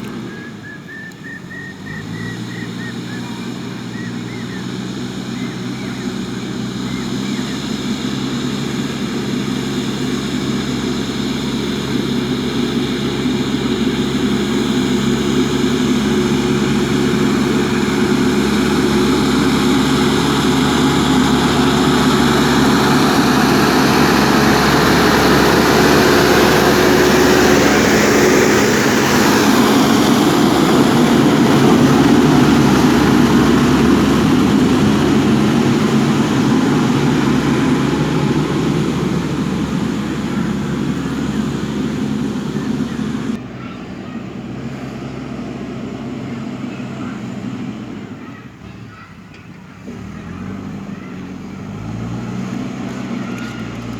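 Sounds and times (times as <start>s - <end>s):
drone propellers whining: 0.0s - 48.5s
diesel engine running: 0.0s - 53.9s.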